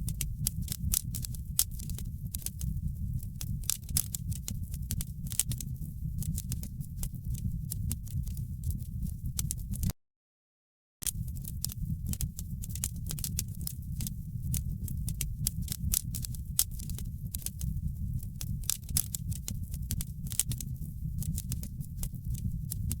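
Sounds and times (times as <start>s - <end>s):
wood fire crackling: 0.0s - 9.9s, 11.0s - 23.0s.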